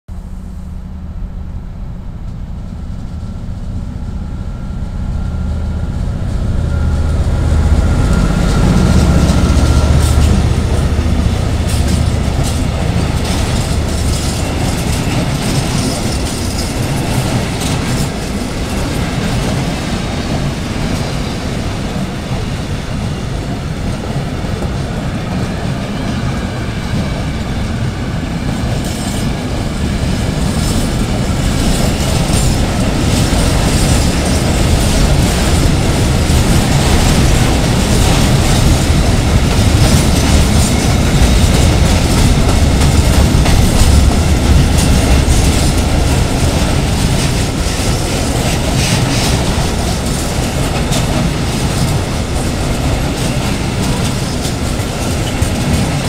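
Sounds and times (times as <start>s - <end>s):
freight wagon wheels rumbling: 0.1s - 56.0s
locomotive engine hum: 0.1s - 56.0s.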